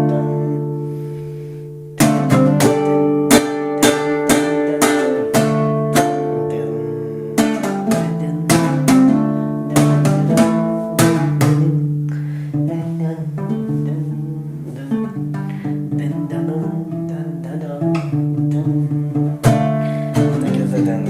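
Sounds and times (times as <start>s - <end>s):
guitar strummed chords: 0.0s - 21.0s.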